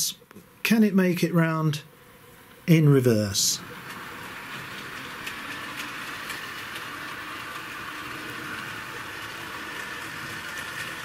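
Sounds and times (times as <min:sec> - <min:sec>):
model train motor whirring: 0:01.4 - 0:11.0.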